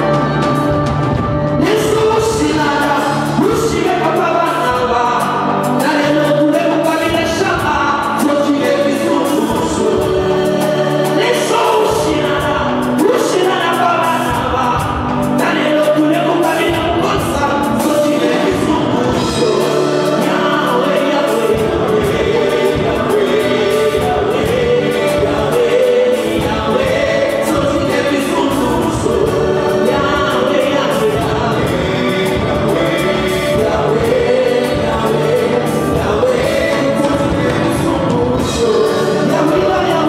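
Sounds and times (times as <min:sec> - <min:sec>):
band accompaniment: 0:00.0 - 0:40.0
male vocal group singing: 0:00.0 - 0:40.0.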